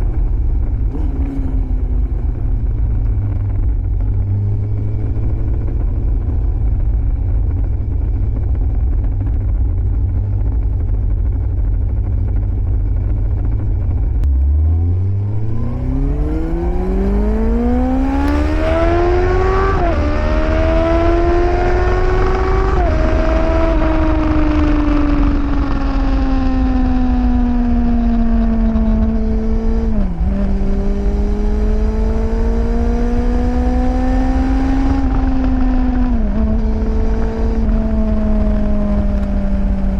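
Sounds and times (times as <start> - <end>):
gear changes: 0.0 - 39.9
motorcycle engine revving: 0.0 - 39.9.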